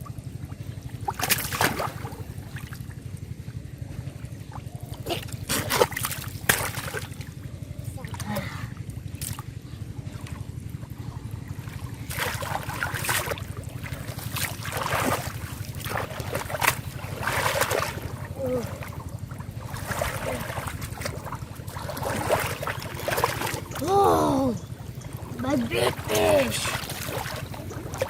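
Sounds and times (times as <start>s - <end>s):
steady low rumble: 0.0s - 28.0s
water splashing and sloshing: 0.0s - 28.0s.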